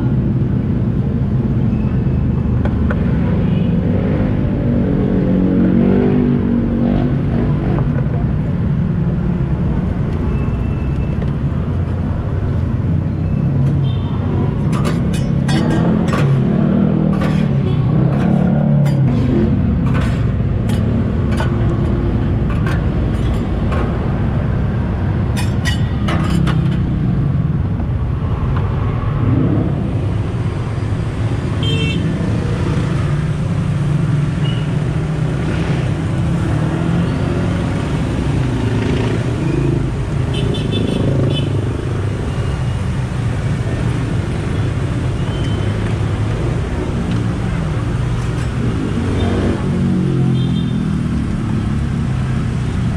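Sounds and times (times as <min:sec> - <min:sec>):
street traffic rumble: 0:00.0 - 0:52.9.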